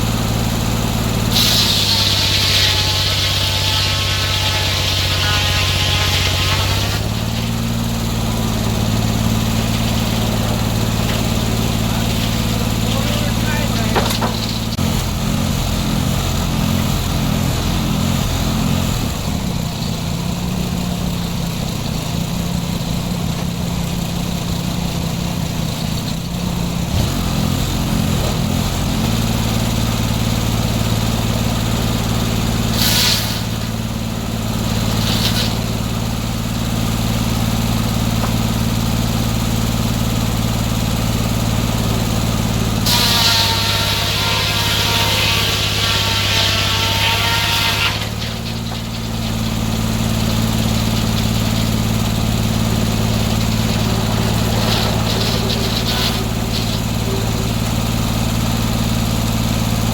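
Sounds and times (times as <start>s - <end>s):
gas engine running sawmill: 0.0s - 59.9s.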